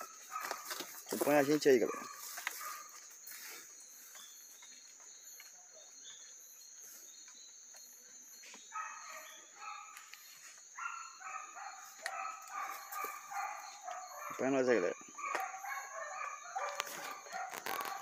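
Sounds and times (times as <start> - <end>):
dogs barking and baying: 0.0 - 6.5, 7.4 - 18.0
night insects droning: 0.0 - 18.0.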